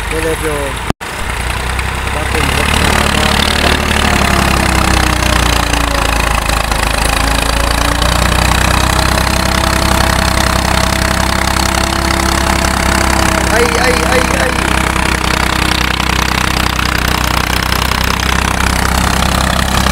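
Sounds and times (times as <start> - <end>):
diesel tractor engines straining: 0.0 - 19.9.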